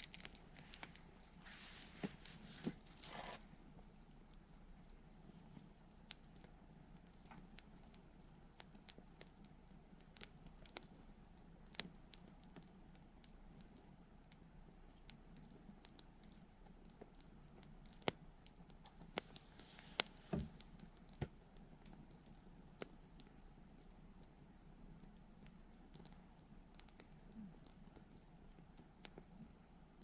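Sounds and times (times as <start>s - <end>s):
bonfire crackling and popping: 0.0s - 5.4s, 6.0s - 30.0s
low flame noise: 0.0s - 30.0s.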